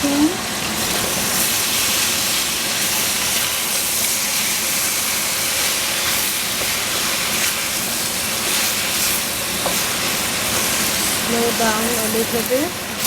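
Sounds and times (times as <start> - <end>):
eggplant sizzling in hot oil: 0.0 - 13.0.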